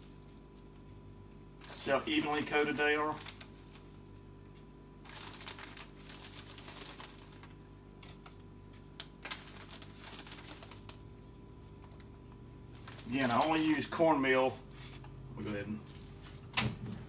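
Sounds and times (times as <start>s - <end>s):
plastic bag rustling: 0.0s - 16.5s.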